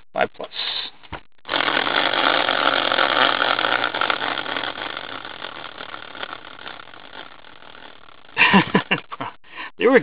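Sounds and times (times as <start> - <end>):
spinning wheel whirring: 1.5 - 10.0.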